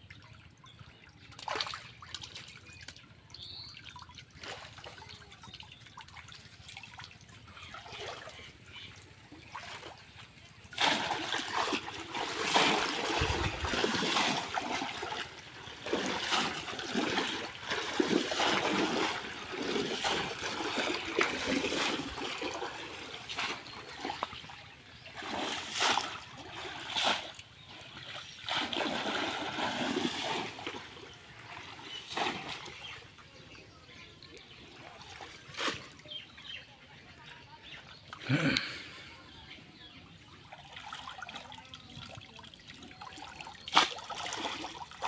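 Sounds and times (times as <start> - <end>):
water splashing and sloshing: 0.0 - 45.0.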